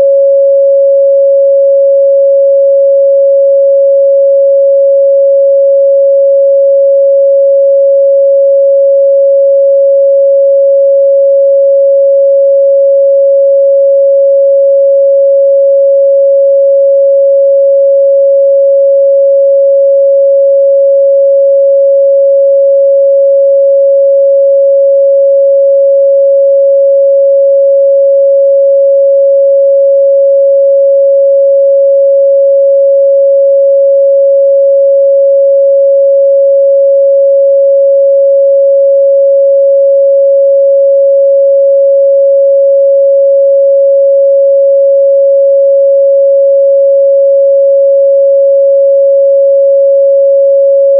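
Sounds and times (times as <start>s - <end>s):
sine-wave test tone: 0.0s - 50.9s.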